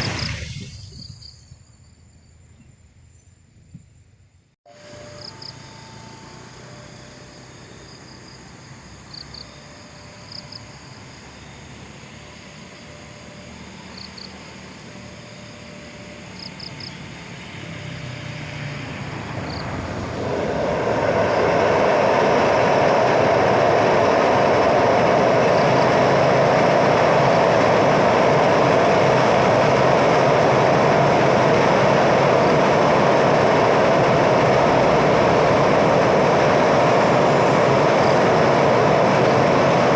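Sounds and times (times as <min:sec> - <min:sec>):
train rumbling across bridge: 0:00.0 - 0:39.9.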